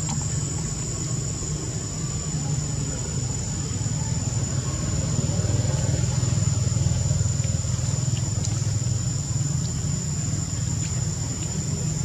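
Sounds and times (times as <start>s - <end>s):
engine rumble: 0.0s - 12.0s
high-pitched whine: 0.0s - 12.0s.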